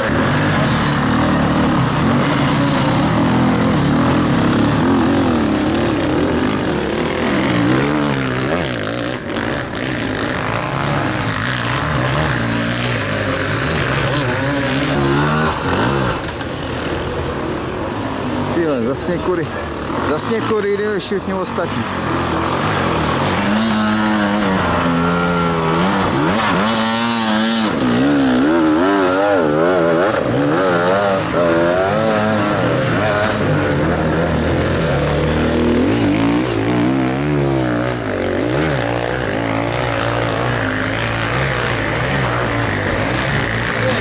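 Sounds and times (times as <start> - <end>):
motorcycle engines revving hard: 0.0 - 44.0.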